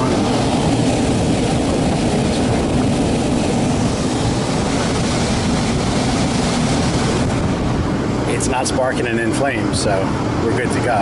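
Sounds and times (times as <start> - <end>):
rush of air from blower: 0.0 - 10.4
low even motor hum: 0.0 - 11.0.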